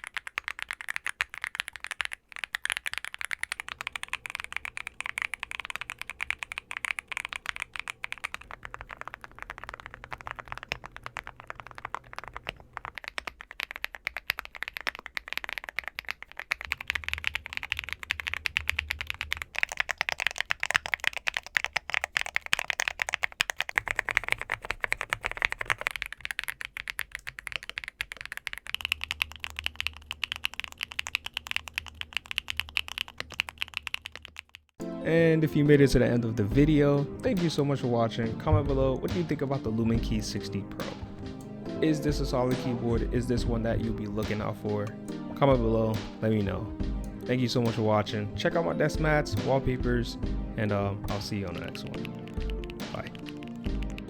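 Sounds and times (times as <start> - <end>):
fast typing on mechanical keyboard: 0.0 - 34.8, 37.3 - 54.0.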